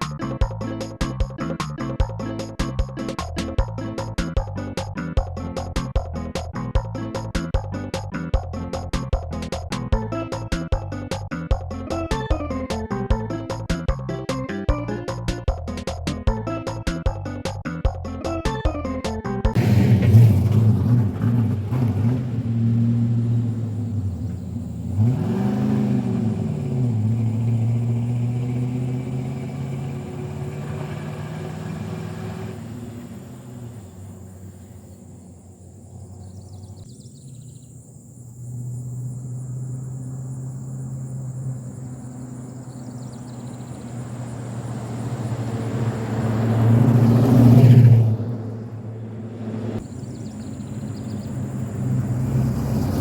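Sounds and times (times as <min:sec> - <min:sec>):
engine humming and revving: 0:00.0 - 0:53.0.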